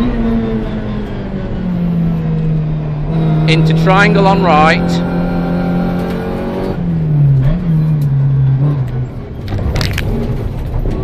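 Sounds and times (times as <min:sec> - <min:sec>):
car engine under hard driving: 0:00.0 - 0:11.0
road and car noise: 0:00.0 - 0:11.0.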